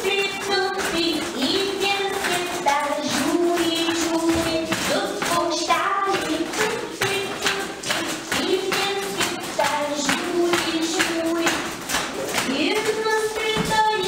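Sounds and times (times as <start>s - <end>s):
person singing children's song: 0.0s - 14.0s
small hand percussion tapping: 0.0s - 14.0s.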